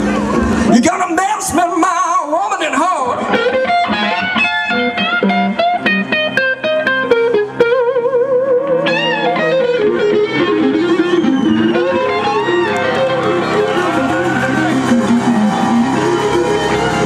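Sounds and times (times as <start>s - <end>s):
electric guitar solo: 0.0s - 17.0s
rock band playing: 0.0s - 17.0s.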